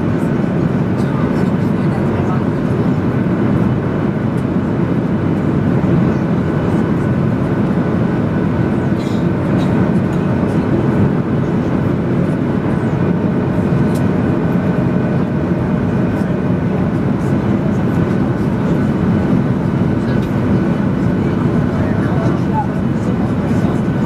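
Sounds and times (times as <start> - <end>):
airplane cabin engine noise: 0.0 - 24.0.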